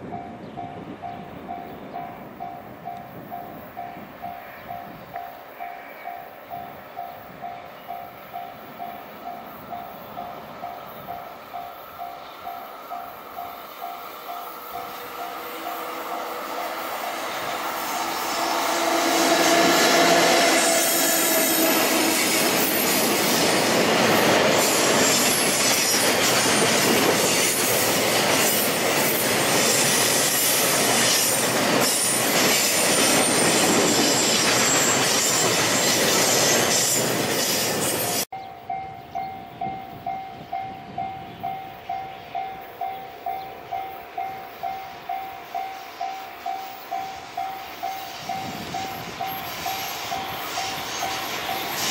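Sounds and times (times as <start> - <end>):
train passing at speed: 0.0 - 51.9.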